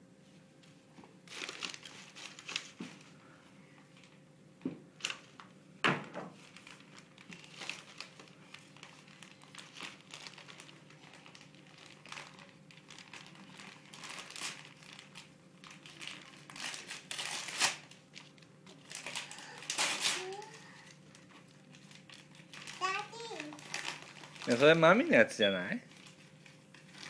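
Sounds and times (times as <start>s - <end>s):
wrapping paper crinkling: 1.2s - 3.2s, 5.0s - 5.6s, 6.3s - 27.0s.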